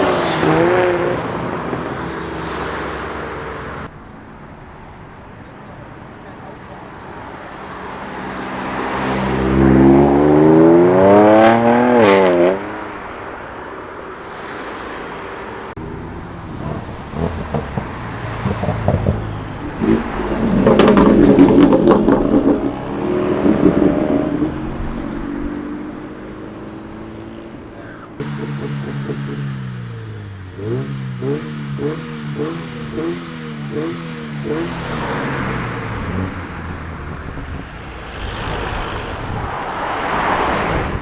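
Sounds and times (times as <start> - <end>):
car engines accelerating: 0.0 - 41.0.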